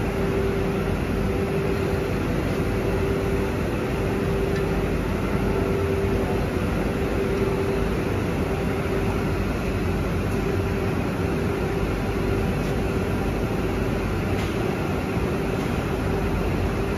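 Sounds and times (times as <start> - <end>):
factory machinery droning: 0.0 - 16.9.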